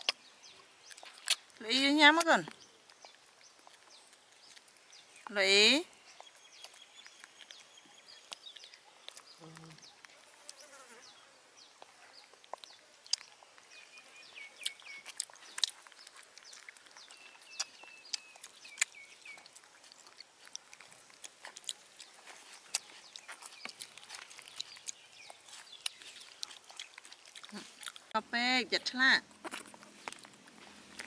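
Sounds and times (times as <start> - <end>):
monkeys chewing and smacking: 0.0 - 11.0, 11.6 - 28.2, 28.8 - 31.0.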